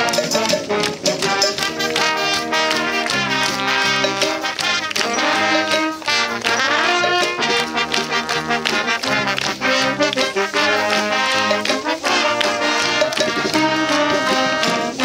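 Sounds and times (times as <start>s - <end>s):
drums: 0.0s - 15.0s
saxophones: 0.0s - 15.0s
trombones: 0.0s - 15.0s
trumpets: 0.0s - 15.0s.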